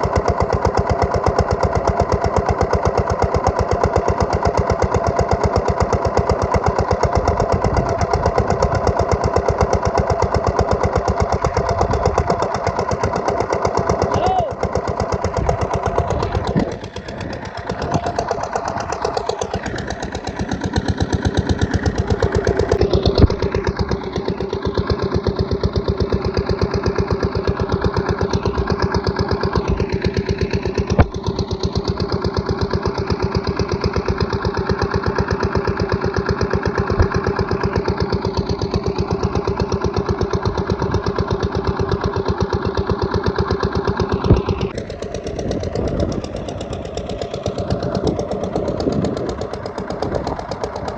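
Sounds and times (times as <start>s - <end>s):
diesel engine chugging: 0.0s - 50.9s.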